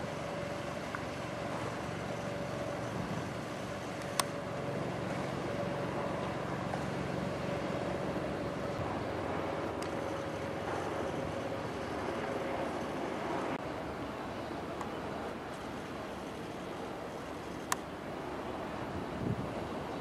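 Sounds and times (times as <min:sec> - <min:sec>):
low engine hum: 0:00.0 - 0:17.2.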